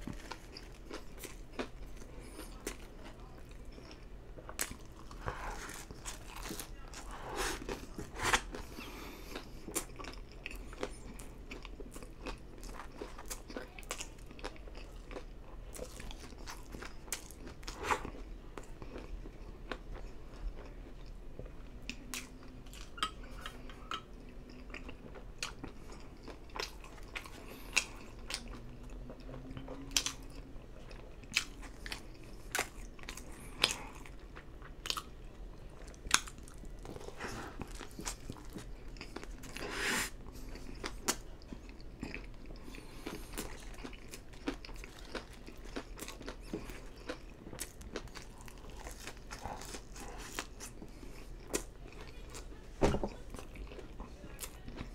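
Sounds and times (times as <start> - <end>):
person chewing food: 0.0 - 54.9.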